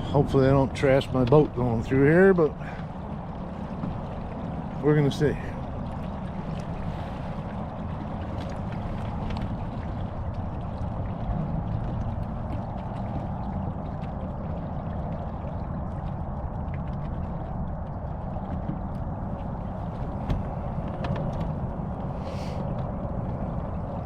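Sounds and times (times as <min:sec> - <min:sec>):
boat motor rumble: 0:00.0 - 0:24.0
water splashing along hull: 0:00.0 - 0:24.0.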